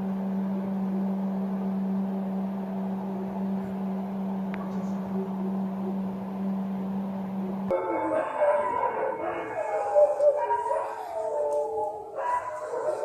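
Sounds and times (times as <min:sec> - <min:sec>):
steady low-pitched hum: 0:00.0 - 0:13.0.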